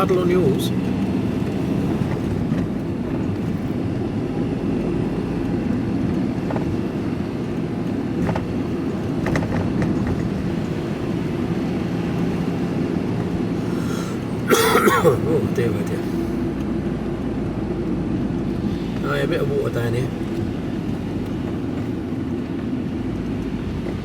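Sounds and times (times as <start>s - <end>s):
van engine and tyre rumble: 0.0s - 24.0s.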